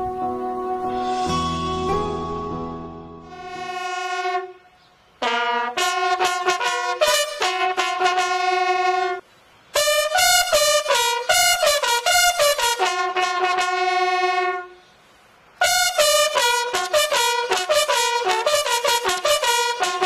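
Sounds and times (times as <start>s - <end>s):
trumpet-like brass melody: 0.0s - 2.2s, 2.8s - 9.2s, 9.8s - 14.8s, 15.6s - 20.0s.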